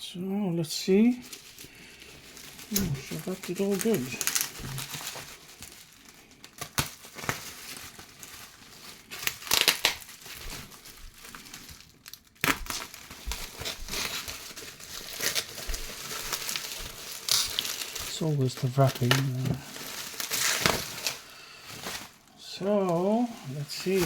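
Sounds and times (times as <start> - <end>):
packing wrap crinkling: 0.9 - 24.0.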